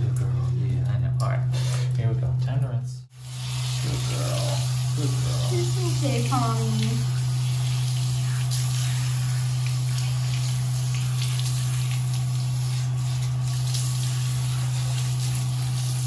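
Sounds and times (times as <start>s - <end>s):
shower water spraying: 3.1s - 16.0s.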